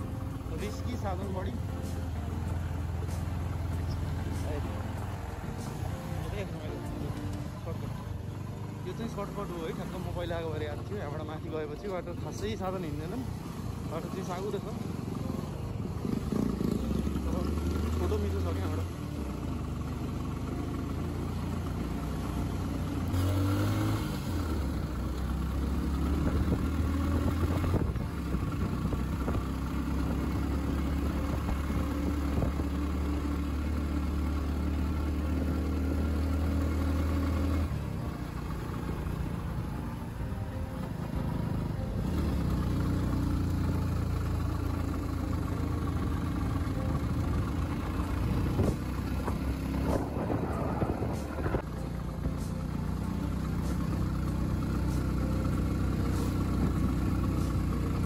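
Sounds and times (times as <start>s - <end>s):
vehicle engine running under load: 0.0s - 58.0s.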